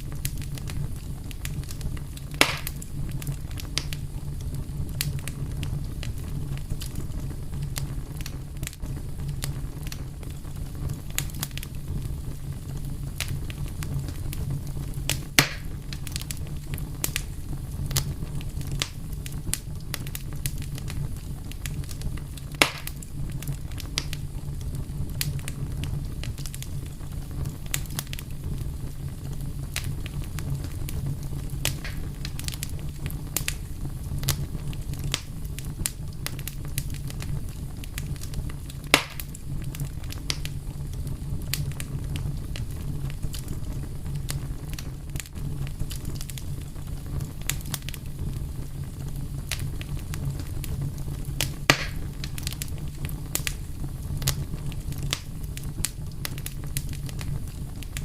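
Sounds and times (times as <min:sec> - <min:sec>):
fire crackles and pops: 0:00.0 - 0:58.0
wood fire rumble: 0:00.0 - 0:58.0.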